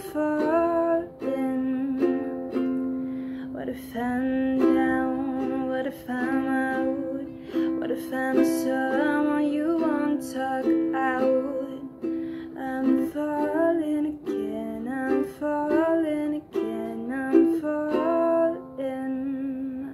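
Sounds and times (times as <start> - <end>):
ukulele strumming chords: 0.0 - 19.9
woman singing softly: 0.0 - 19.9.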